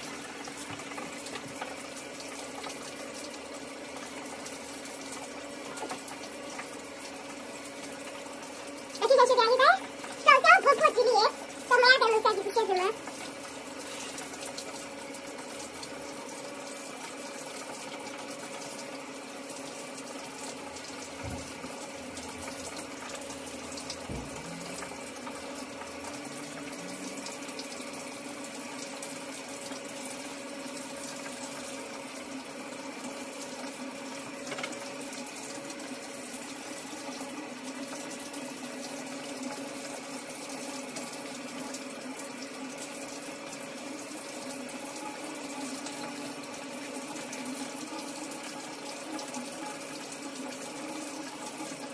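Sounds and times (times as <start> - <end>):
shower water running: 0.0 - 51.9.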